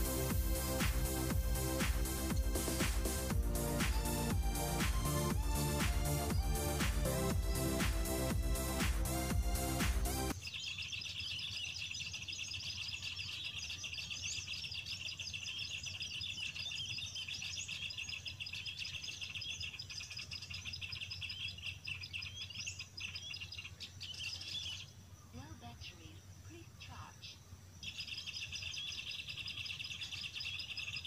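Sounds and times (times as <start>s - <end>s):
bird call chirping and twittering: 0.0s - 31.0s.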